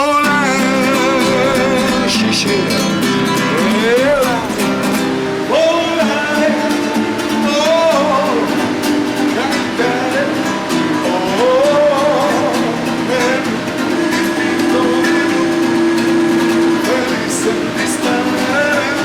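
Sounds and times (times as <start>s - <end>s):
man singing: 0.0s - 19.0s
strummed string instrument: 0.0s - 19.0s.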